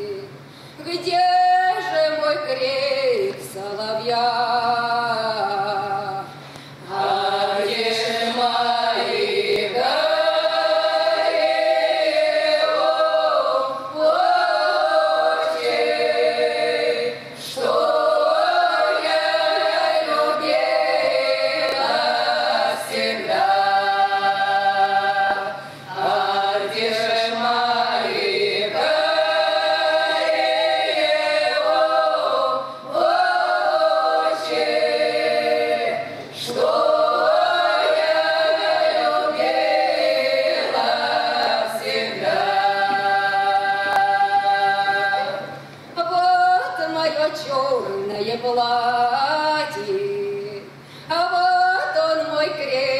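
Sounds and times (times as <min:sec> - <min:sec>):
women's choir singing a cappella: 0:00.0 - 0:52.9.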